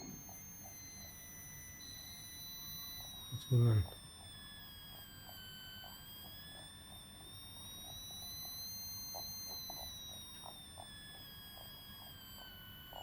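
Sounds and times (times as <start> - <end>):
faint irregular ticks: 0.0 - 13.0.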